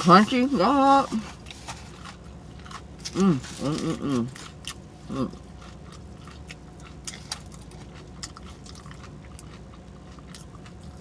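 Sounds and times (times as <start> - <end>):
voiced hum: 0.0 - 11.0
wet chewing and lip smacking: 1.3 - 11.0.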